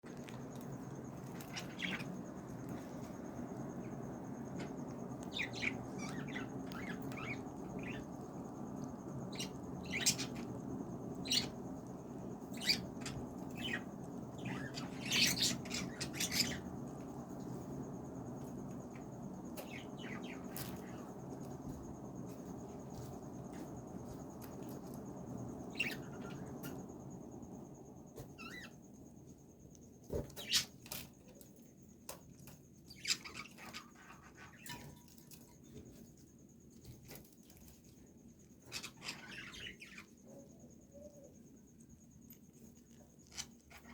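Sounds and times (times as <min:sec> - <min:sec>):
low background hum: 0:00.0 - 0:43.9
small birds chirping: 0:00.0 - 0:43.9.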